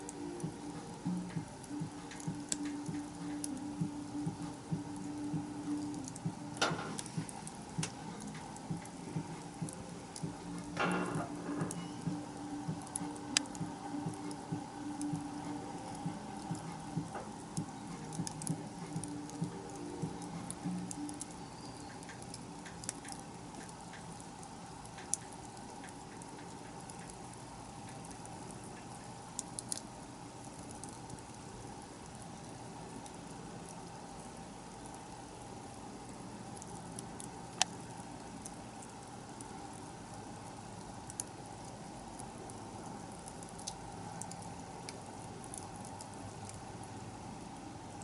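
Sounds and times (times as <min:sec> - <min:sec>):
bonfire crackling and popping: 0:00.0 - 0:48.0.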